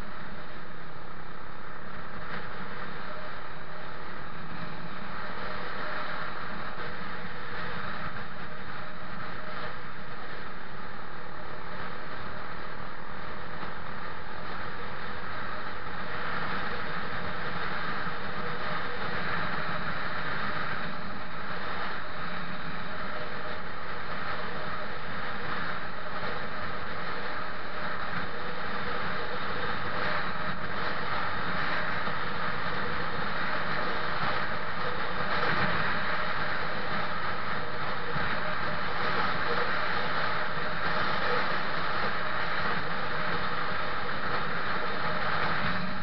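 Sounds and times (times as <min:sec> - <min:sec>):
wind and road noise: 0:00.0 - 0:46.0.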